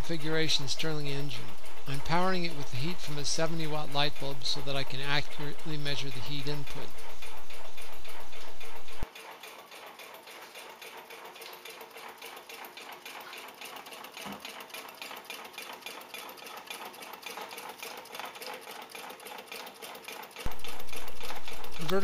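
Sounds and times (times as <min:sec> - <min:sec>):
stirling engine ticking: 0:00.0 - 0:22.0.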